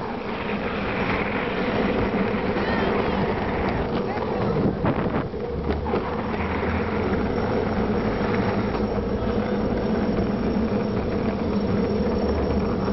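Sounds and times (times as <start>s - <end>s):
skateboard wheels rolling on asphalt: 0.0s - 12.9s.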